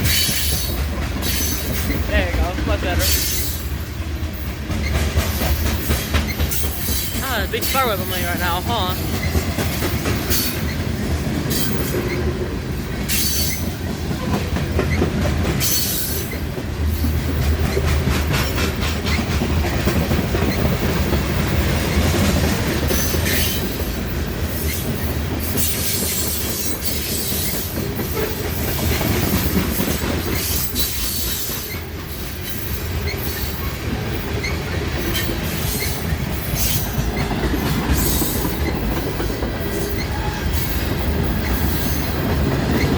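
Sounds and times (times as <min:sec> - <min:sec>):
freight train cars rumbling: 0:00.0 - 0:42.9
wheels clicking over rail joints: 0:00.0 - 0:42.9.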